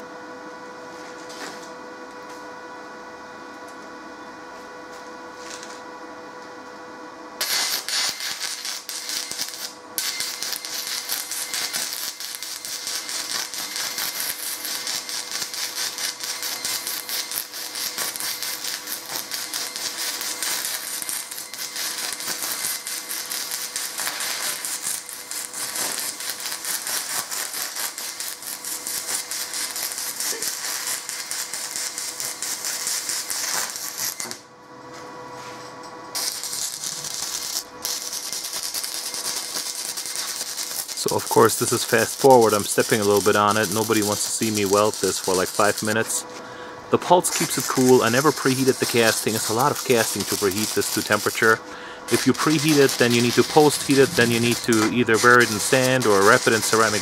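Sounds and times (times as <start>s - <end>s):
welding arc crackling and sputtering: 7.4s - 34.5s, 36.1s - 57.0s.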